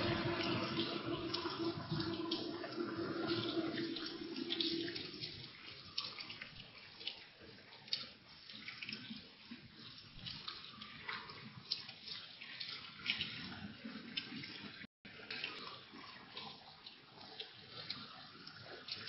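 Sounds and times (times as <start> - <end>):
drips ticking: 0.0 - 19.0.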